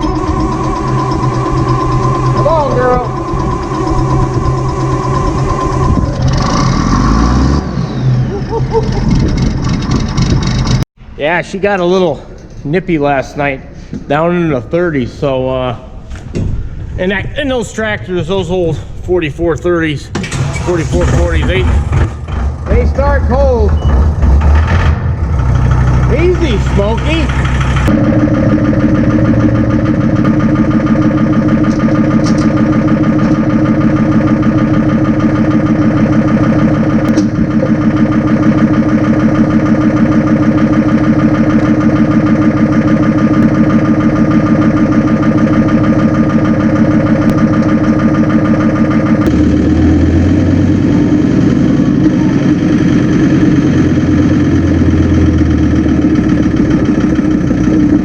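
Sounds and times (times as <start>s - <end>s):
deep rumble: 0.0s - 58.0s
tractor diesel engine running: 0.0s - 58.0s.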